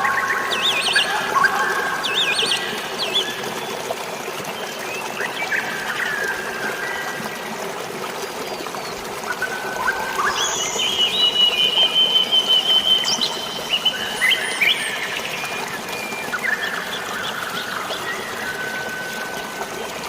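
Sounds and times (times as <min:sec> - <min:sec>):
songbirds calling: 0:00.0 - 0:19.4
running water: 0:00.0 - 0:20.0.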